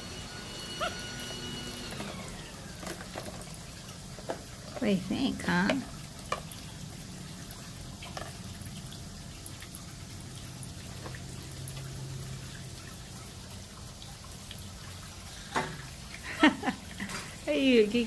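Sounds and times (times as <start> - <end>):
faucet trickling into plastic basin: 0.1 - 18.0.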